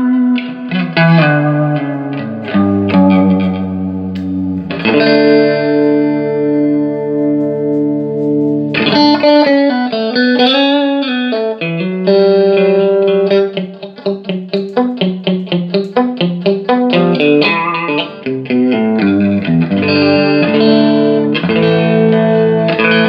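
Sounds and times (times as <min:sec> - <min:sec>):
electric guitar: 0:00.0 - 0:23.0.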